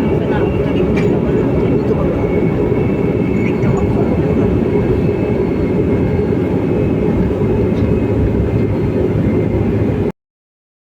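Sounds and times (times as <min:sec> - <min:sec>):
faint steady whines: 0:00.0 - 0:10.1
train car rumbling: 0:00.0 - 0:10.1.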